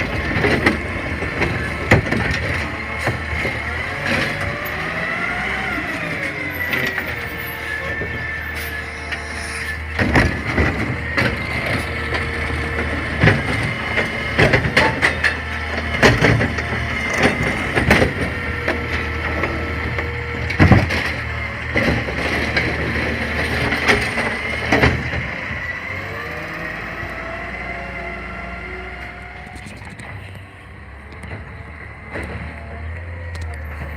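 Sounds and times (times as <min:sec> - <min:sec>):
garbage truck engine whine: 0:00.0 - 0:33.9.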